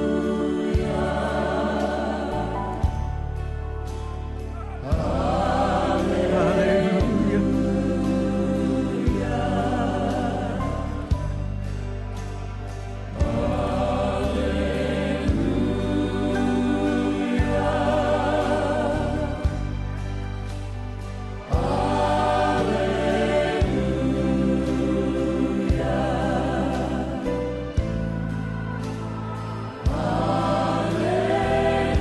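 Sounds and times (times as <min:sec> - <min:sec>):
voices singing long notes: 0:00.0 - 0:02.9, 0:03.8 - 0:11.3, 0:13.1 - 0:20.3, 0:21.4 - 0:32.0.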